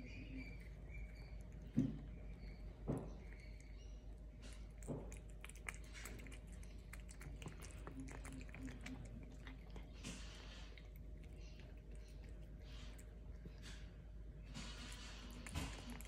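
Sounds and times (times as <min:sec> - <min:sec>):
cat licking and chewing: 0:00.4 - 0:16.0.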